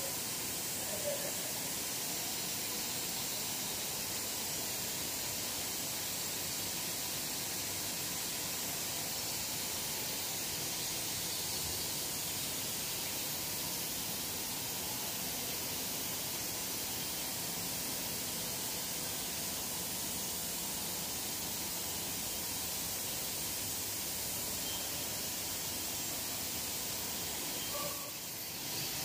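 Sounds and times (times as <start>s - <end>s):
factory machinery hiss: 0.0s - 29.0s.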